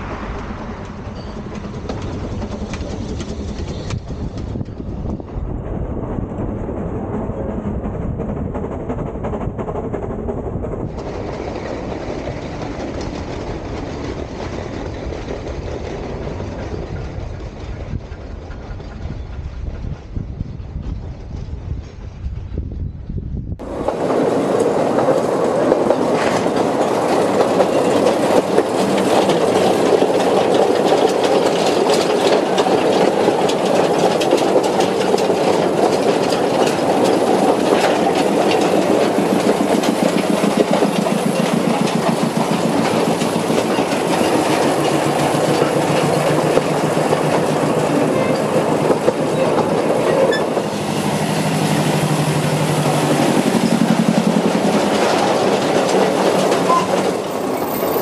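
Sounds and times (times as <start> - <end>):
wheels clicking over rail joints: 0.0 - 5.4, 7.6 - 20.2, 23.6 - 58.0
train carriage rumble: 0.0 - 58.0.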